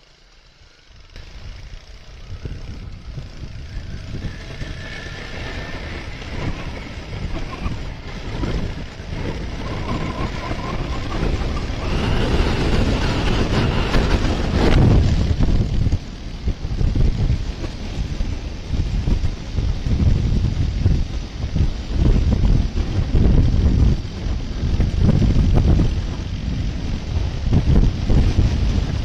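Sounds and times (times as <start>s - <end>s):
motorcycle engine running: 0.0s - 29.0s
wind rushing over microphone: 1.2s - 29.0s.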